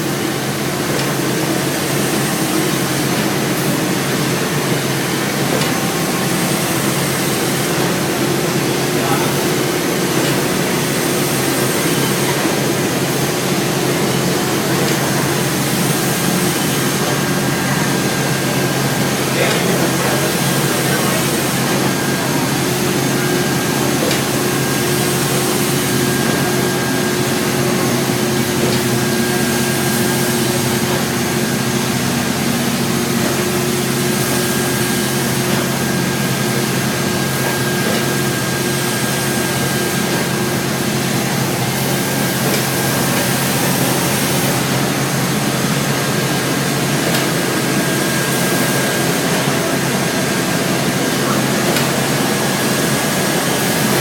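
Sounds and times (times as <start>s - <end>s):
steamboat machinery running: 0.0s - 54.0s.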